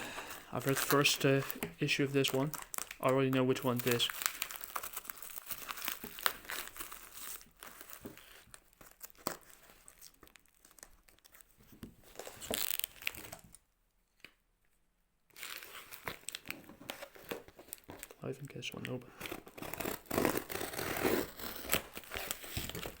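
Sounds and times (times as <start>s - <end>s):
plastic packaging crinkling and tearing: 0.2s - 13.6s, 15.3s - 23.0s.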